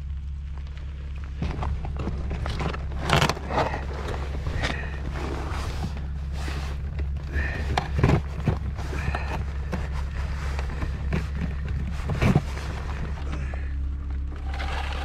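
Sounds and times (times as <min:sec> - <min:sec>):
rope rubbing and scraping: 0:01.3 - 0:15.0.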